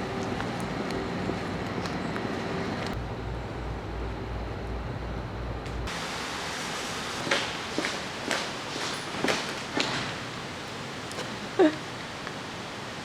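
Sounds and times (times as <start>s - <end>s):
moving vehicle rumble and hiss: 0.0s - 13.0s.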